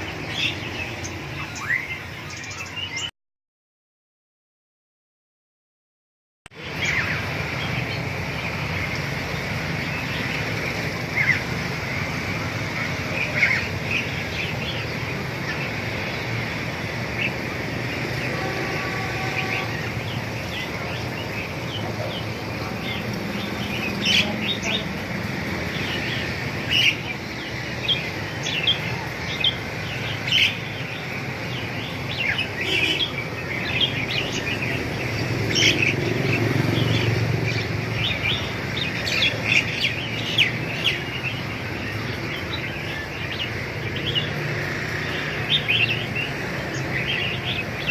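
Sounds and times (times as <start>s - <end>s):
caged songbirds chirping: 0.0s - 3.1s, 6.5s - 47.9s.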